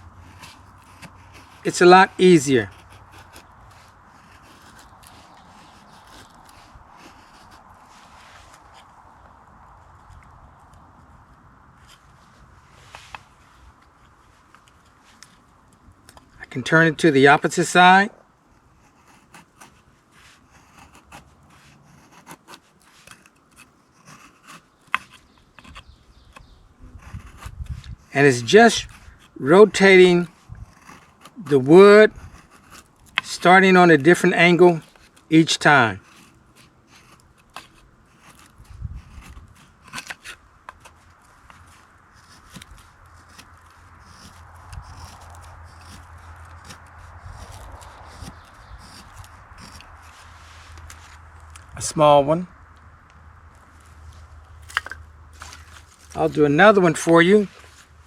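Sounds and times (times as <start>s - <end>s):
knife scraping wood: 0.0s - 52.8s, 53.4s - 58.0s.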